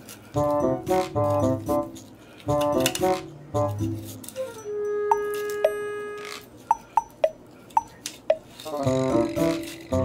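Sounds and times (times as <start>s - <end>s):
light instrumental tune: 0.3s - 10.0s.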